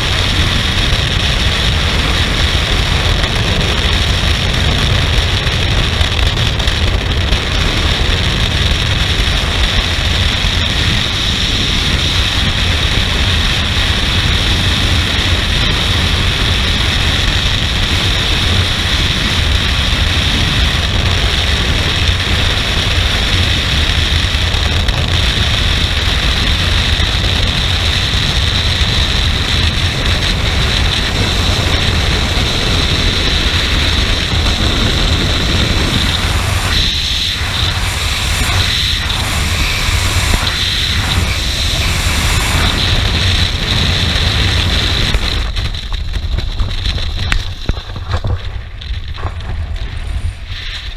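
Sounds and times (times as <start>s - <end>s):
freefall wind rushing over microphone: 0.0s - 50.9s.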